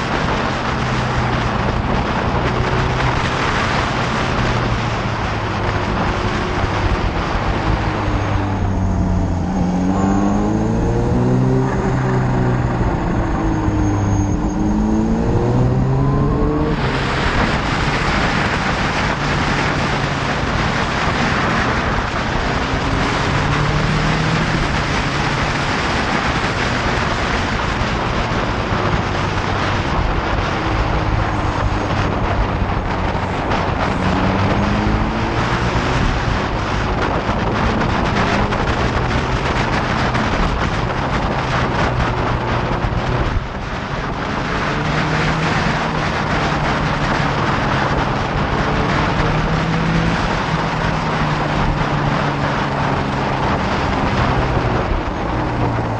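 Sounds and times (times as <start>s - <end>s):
motorcycle engine accelerating: 0.0s - 55.9s
wind rush on microphone: 0.0s - 55.9s.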